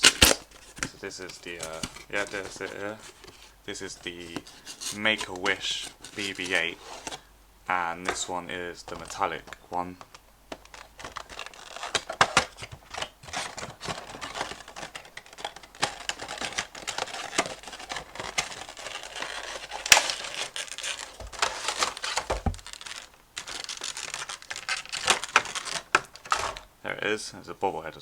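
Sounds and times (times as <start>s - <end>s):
packaging crinkling and rustling: 0.0s - 26.7s.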